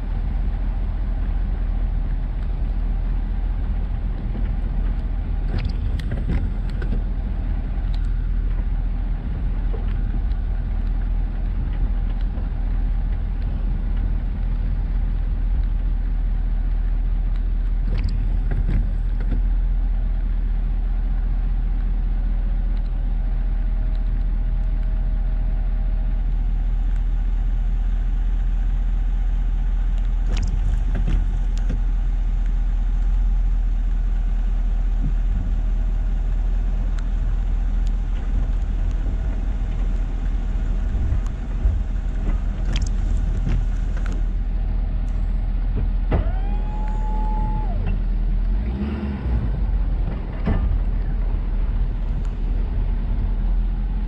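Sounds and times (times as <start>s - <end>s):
truck engine and road rumble: 0.0s - 54.0s.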